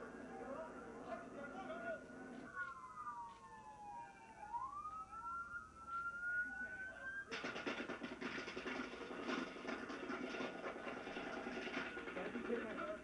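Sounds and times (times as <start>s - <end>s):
police sirens wailing: 0.0s - 13.0s.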